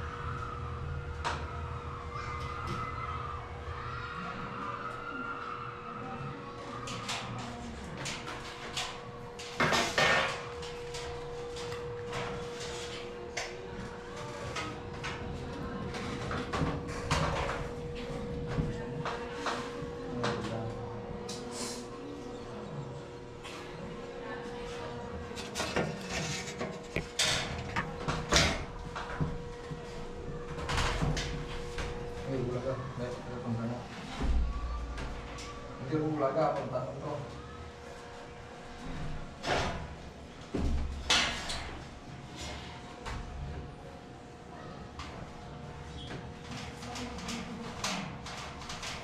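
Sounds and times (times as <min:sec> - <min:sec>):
steady hum: 0:00.0 - 0:48.9.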